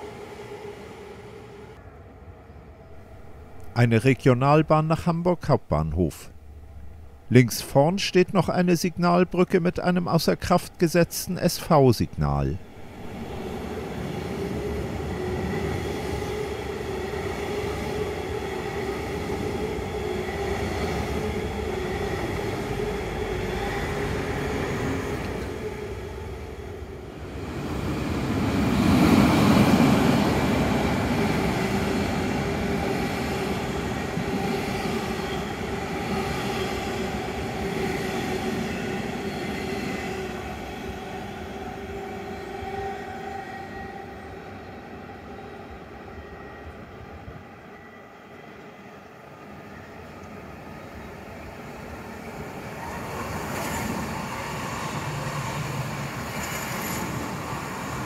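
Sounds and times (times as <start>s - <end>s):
train wheel and rail noise: 0.0s - 3.8s, 12.6s - 58.0s.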